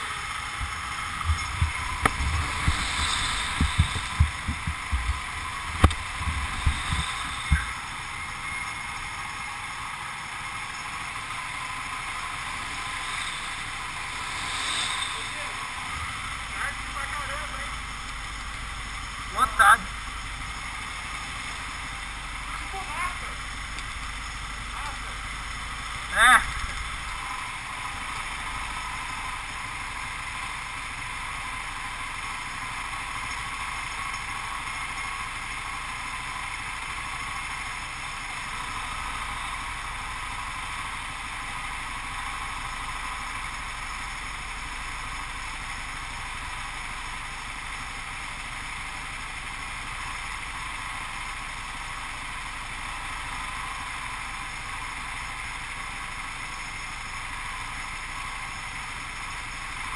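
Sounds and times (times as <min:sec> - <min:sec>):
go-kart engine droning: 0:00.0 - 0:59.9.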